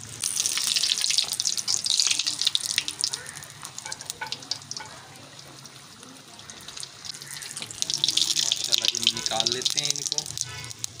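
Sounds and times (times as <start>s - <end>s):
deep-frying crackling sizzle: 0.0s - 11.0s.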